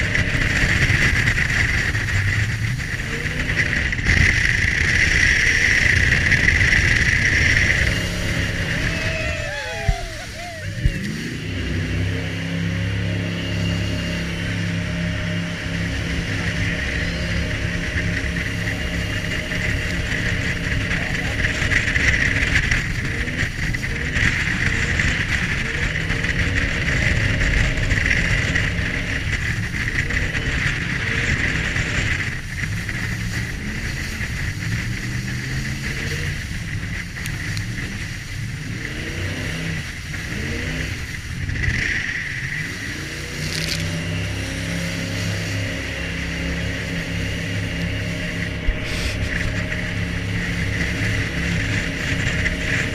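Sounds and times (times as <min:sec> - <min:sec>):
jet boat engine running hard: 0:00.0 - 0:52.9
water rushing and spraying: 0:00.0 - 0:52.9.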